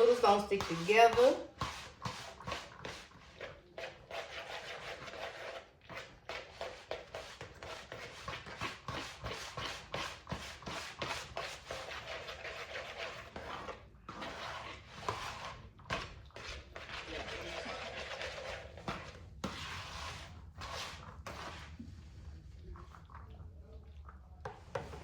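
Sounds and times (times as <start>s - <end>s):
utensil scraping a bowl: 0.0s - 23.4s, 24.4s - 25.0s.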